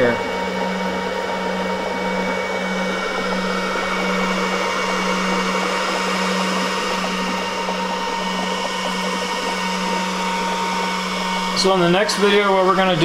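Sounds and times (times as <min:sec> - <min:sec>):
power supply hum and hiss: 0:00.0 - 0:13.0
bubbling ticks: 0:00.7 - 0:13.0.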